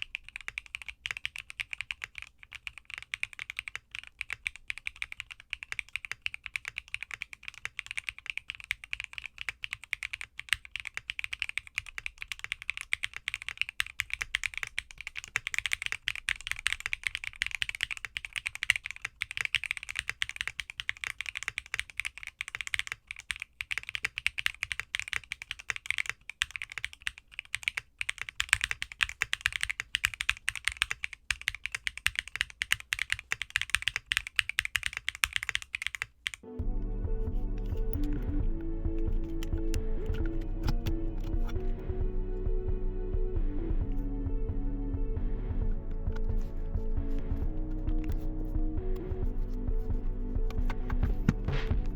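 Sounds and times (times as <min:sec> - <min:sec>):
mechanical keyboard typing: 0:00.0 - 0:36.6, 0:37.5 - 0:42.0, 0:45.7 - 0:51.9.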